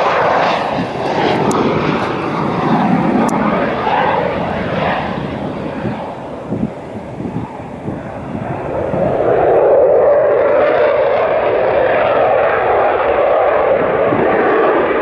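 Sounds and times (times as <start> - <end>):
jet engine rushing: 0.0 - 15.0.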